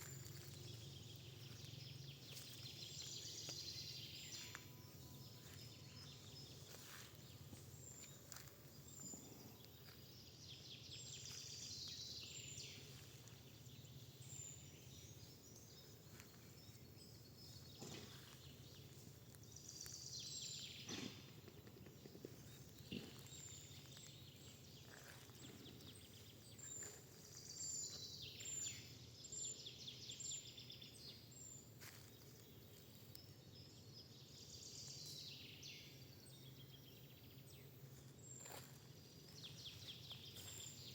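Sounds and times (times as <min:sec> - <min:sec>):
songbird trills: 0:00.0 - 0:40.9.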